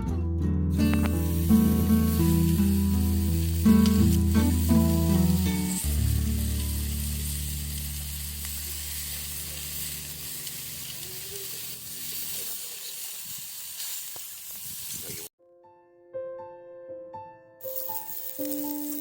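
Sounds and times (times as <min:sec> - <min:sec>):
faint fire crackles: 0:00.8 - 0:15.3, 0:17.6 - 0:19.0
pizza sizzling in a skillet: 0:00.8 - 0:15.3, 0:17.6 - 0:19.0.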